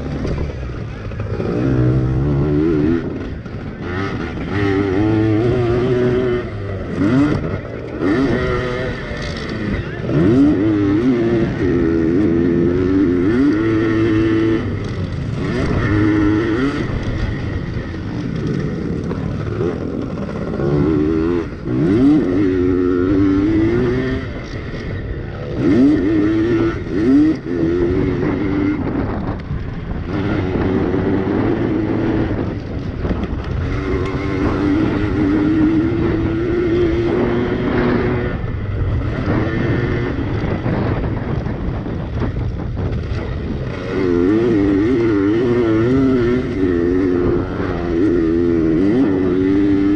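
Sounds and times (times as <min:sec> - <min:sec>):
pit bike engines revving: 0:00.0 - 0:49.9.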